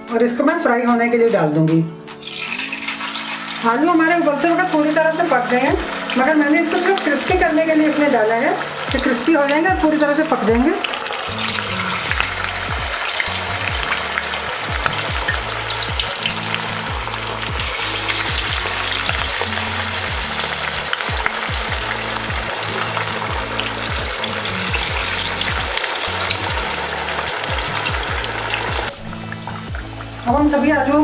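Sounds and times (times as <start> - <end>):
batter deep-frying in hot oil: 2.2 - 31.0.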